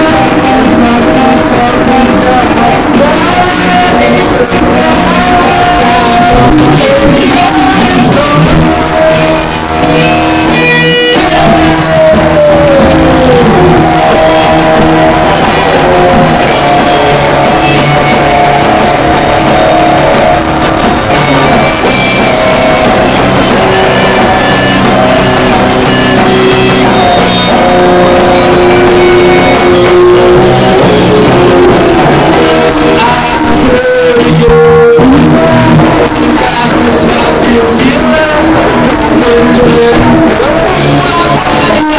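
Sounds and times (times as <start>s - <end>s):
person singing: 0.0s - 41.9s
rock band playing: 0.0s - 41.9s.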